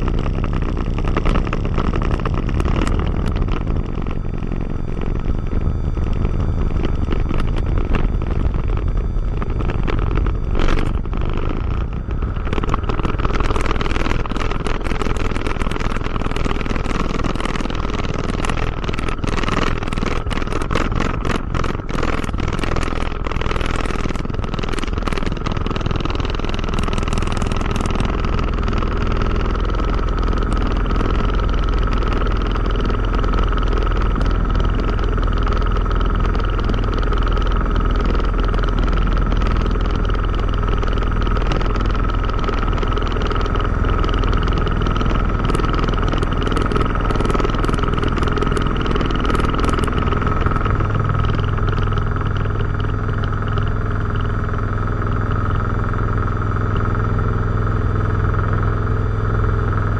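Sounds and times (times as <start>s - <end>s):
aircraft engine droning: 0.0s - 59.9s
wheels rattling on runway: 5.9s - 57.4s.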